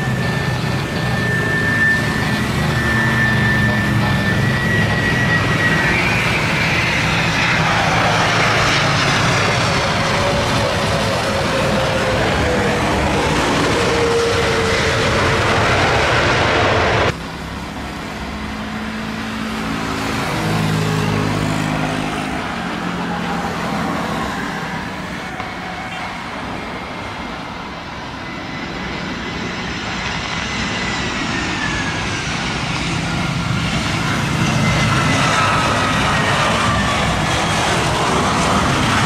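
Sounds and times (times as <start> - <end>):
high engine whine: 0.0 - 39.0
jet airliner on approach: 0.0 - 39.0
jet engines landing: 0.0 - 39.0.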